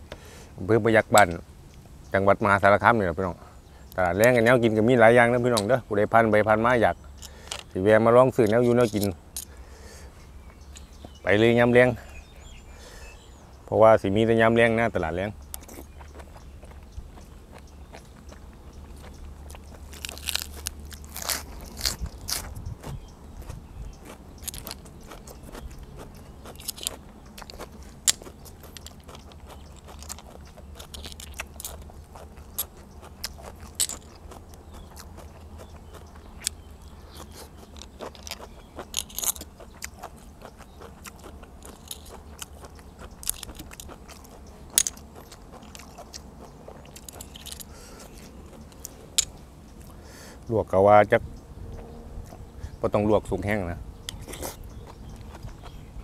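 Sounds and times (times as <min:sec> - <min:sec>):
low steady hum: 0:00.0 - 0:56.0
chewing and crunching food: 0:02.5 - 0:13.4, 0:14.3 - 0:56.0.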